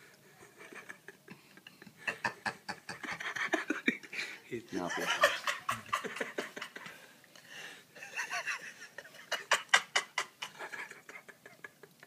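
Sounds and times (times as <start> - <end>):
person giggling: 0.4 - 7.0, 8.0 - 12.0
stifled snickering laughter: 0.4 - 7.0, 8.0 - 12.0.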